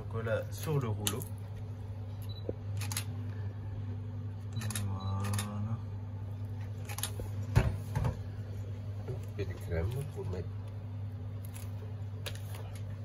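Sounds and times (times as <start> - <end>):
kitchen hum: 0.0 - 13.0.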